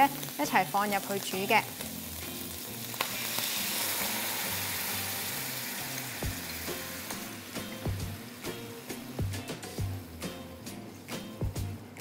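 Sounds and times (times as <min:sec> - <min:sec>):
sauce sizzling in a hot wok: 0:00.0 - 0:11.8.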